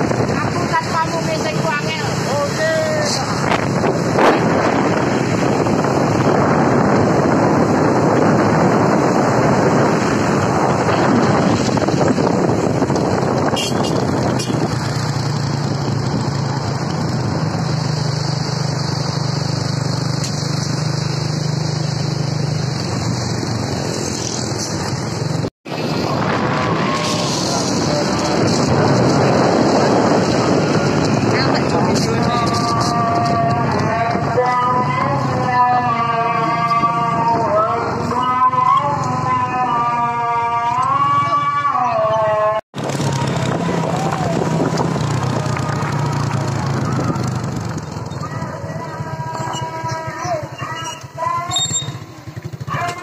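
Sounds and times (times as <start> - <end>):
wind buffeting microphone: 0.0 - 18.0, 22.4 - 38.2, 42.3 - 52.8
vehicle road and engine noise: 0.0 - 53.0.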